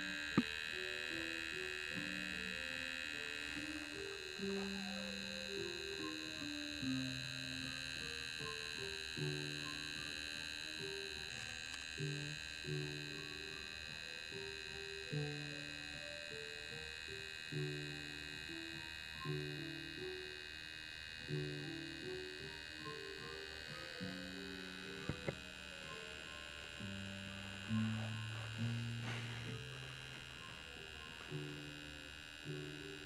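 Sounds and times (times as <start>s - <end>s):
high-pitched electrical hum: 0.0s - 33.0s
slow background music: 0.0s - 33.0s.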